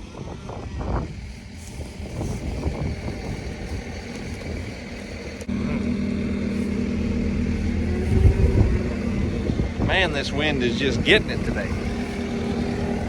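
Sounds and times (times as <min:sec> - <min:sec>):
vehicle engine humming: 0:00.0 - 0:13.0
wind rumbling on microphone: 0:00.0 - 0:13.0.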